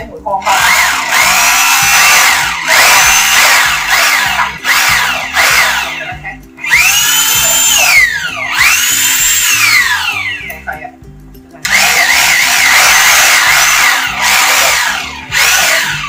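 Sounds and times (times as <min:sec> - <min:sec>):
rotary hammer motor whining: 0:00.5 - 0:10.6, 0:11.7 - 0:16.0.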